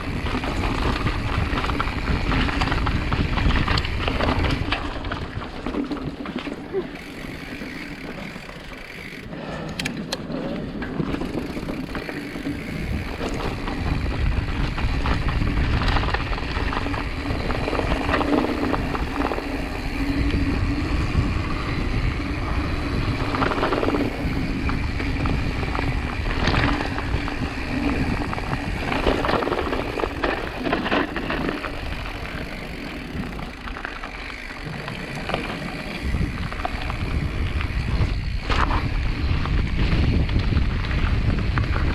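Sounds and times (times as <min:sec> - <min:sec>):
bike rattling over rough ground: 0:00.0 - 0:41.9
wind noise on microphone: 0:00.0 - 0:41.9.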